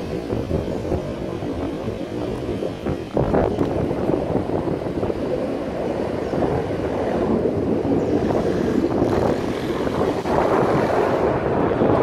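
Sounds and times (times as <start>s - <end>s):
fighter jets flying overhead: 0.0s - 12.0s.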